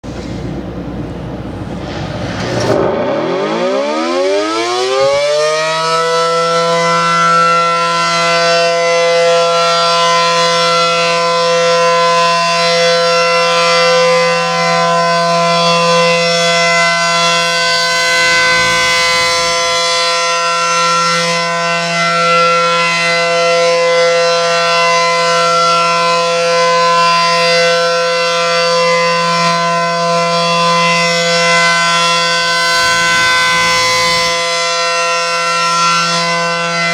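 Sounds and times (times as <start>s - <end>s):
tornado siren wailing: 0.0s - 36.9s.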